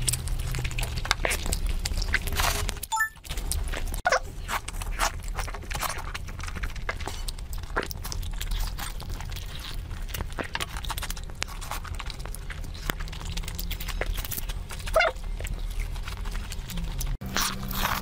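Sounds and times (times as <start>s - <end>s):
wet chewing and lip smacking: 0.0s - 18.0s.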